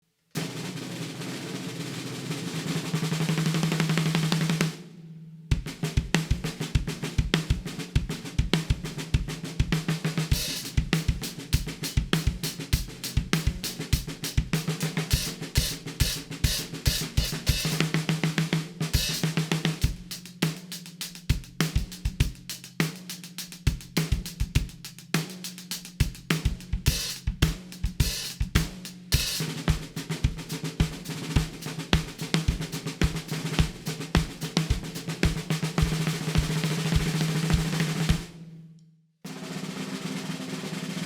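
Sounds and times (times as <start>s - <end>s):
drum-kit groove: 0.4s - 4.9s, 5.5s - 38.5s
snare drum roll: 0.4s - 38.5s, 39.3s - 41.0s.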